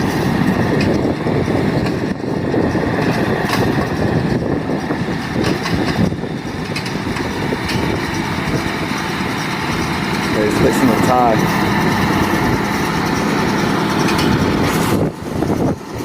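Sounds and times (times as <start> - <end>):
tractor and baler running: 0.0 - 16.0.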